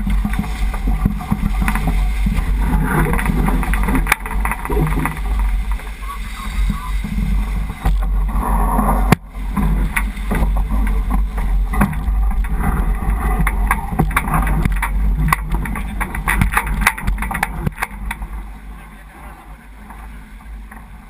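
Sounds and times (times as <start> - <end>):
water rushing past hull: 0.0 - 21.0
wind buffeting microphone: 0.0 - 21.0.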